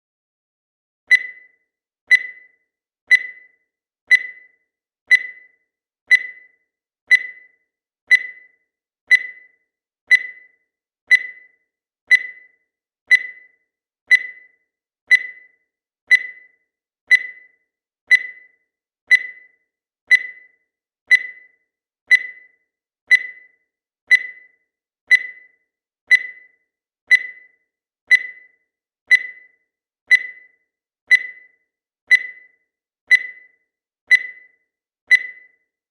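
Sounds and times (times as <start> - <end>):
digital timer beeping: 1.1 - 35.9.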